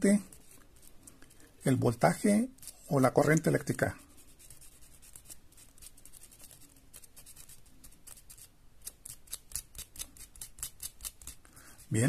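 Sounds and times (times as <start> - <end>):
sandpaper scratching metal: 1.7 - 12.0.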